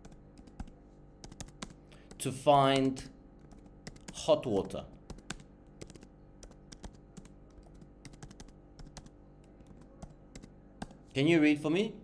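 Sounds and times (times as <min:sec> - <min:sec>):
keyboard typing: 0:00.0 - 0:11.0
low steady hum: 0:00.0 - 0:12.0.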